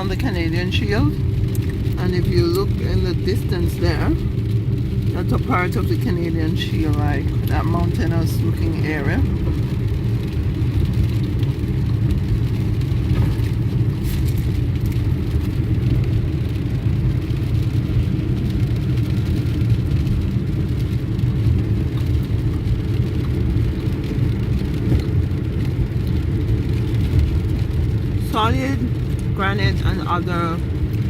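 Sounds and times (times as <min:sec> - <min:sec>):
car road rumble: 0:00.0 - 0:31.0
tyres on wet slushy road: 0:00.0 - 0:31.0.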